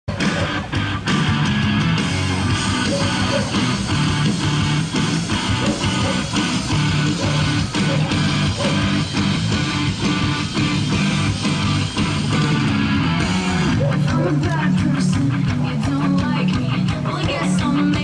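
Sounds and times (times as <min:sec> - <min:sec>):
rock music with guitar: 0:00.1 - 0:18.0.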